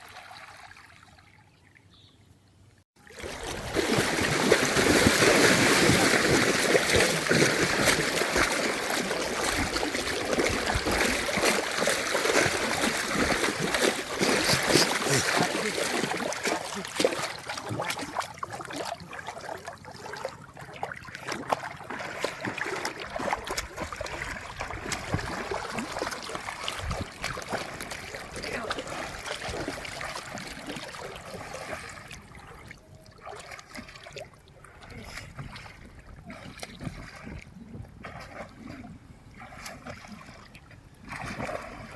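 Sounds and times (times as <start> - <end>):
water splashing and trickling: 0.0 - 1.9, 3.0 - 41.9.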